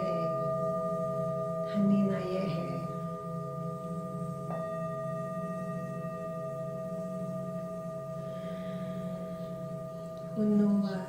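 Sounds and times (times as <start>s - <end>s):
higher struck tone: 0.0s - 11.0s
singing bowl ringing: 0.0s - 11.0s.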